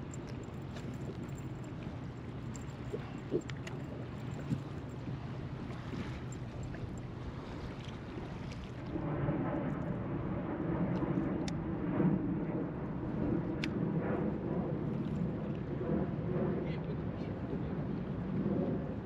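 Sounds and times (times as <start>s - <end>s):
choppy river water: 0.0s - 19.0s.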